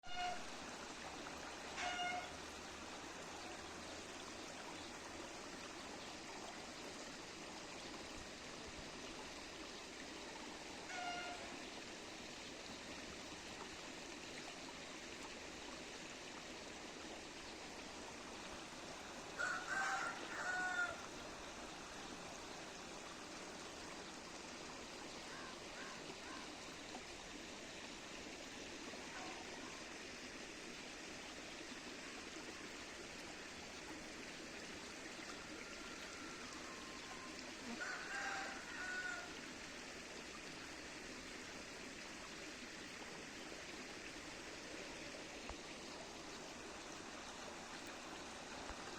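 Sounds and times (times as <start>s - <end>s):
flowing water rushing: 0.0s - 48.9s.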